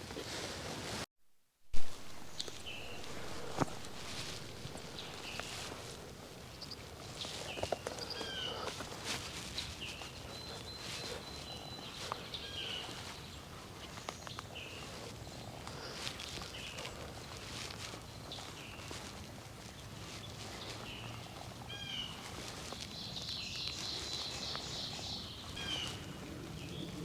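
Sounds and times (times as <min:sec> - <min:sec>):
footsteps crunching through leaves: 0:01.7 - 0:27.0
songbirds chirping: 0:01.8 - 0:27.0.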